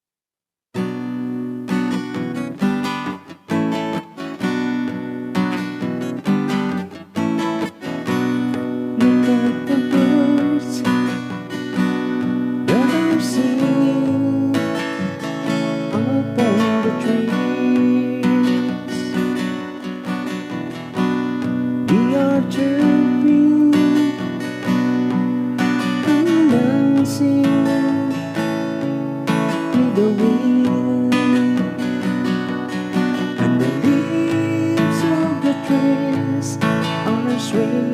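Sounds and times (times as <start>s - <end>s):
acoustic guitar strumming chords: 0.8s - 37.9s.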